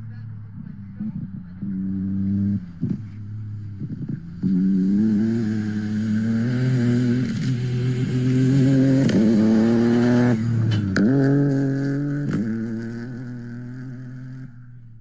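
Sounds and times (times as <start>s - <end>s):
rally car engine revving hard: 0.9s - 14.7s.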